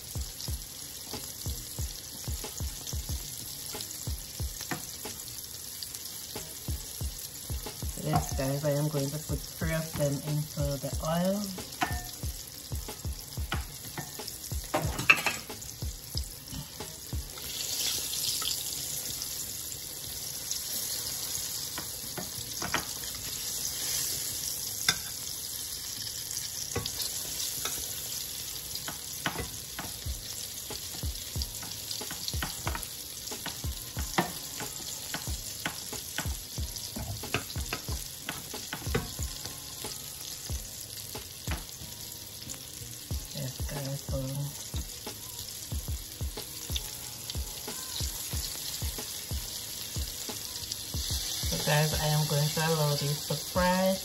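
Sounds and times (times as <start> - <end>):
fish frying in hot oil: 0.0 - 54.0.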